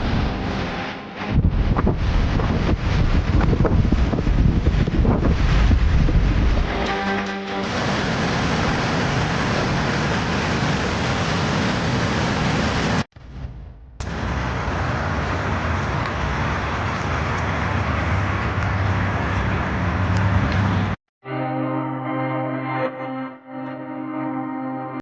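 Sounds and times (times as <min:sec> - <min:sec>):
loud steady rushing noise: 0:00.0 - 0:21.0.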